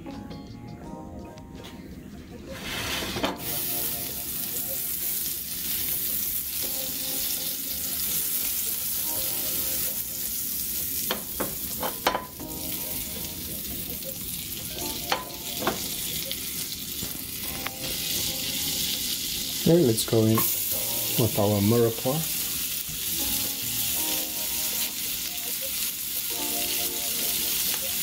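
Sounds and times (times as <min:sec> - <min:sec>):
butter sizzling in frying pan: 0:02.6 - 0:28.0.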